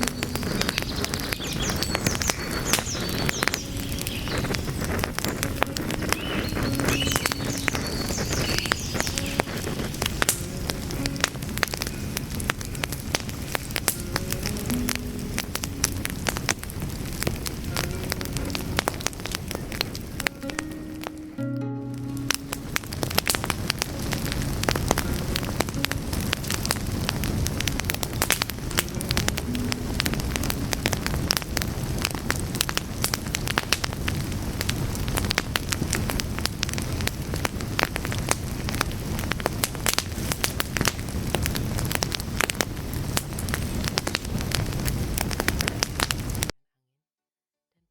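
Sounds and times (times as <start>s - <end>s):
wood fire crackling: 0.0s - 46.5s.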